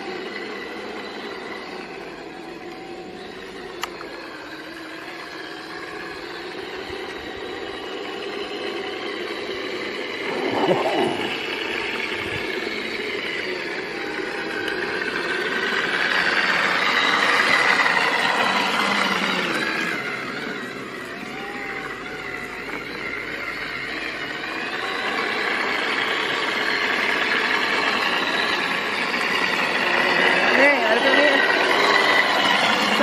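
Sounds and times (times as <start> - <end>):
electric motor whine: 0.0 - 33.0.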